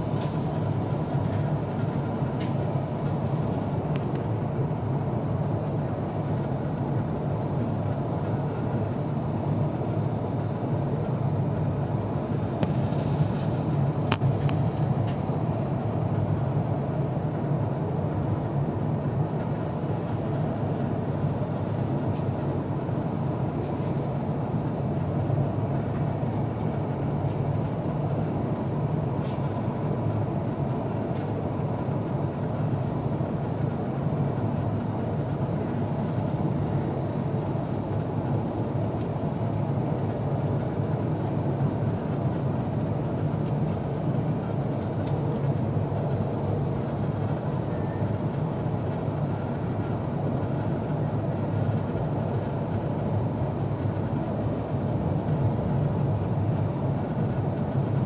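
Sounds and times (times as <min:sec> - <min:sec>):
airliner cabin rumble: 0:00.0 - 0:21.0, 0:21.6 - 0:58.0.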